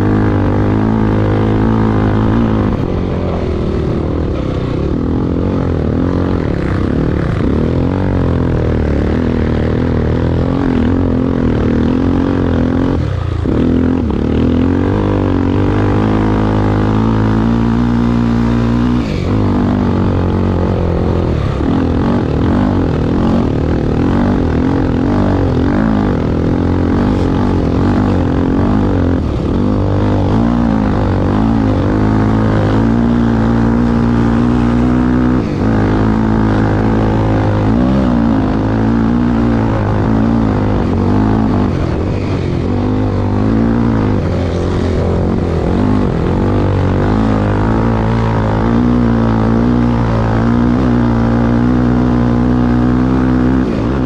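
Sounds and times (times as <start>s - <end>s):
racing vehicle engine revving: 0.0s - 54.0s.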